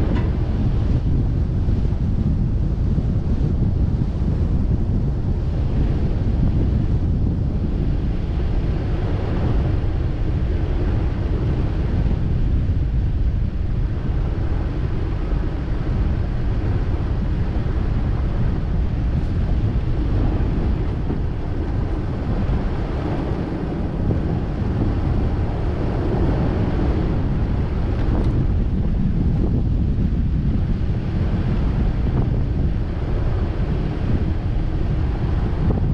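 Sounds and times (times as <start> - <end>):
vehicle rumble on dirt road: 0.0 - 35.9
wind buffeting microphone: 0.0 - 35.9.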